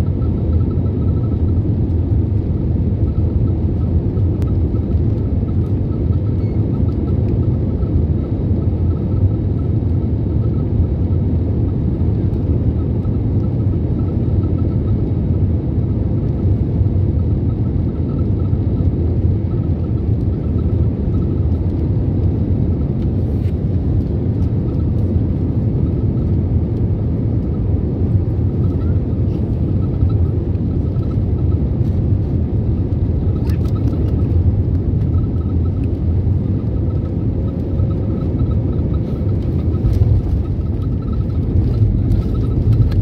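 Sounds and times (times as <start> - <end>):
airplane cabin rumble: 0.0 - 43.0
faint wavering whine: 0.0 - 43.0.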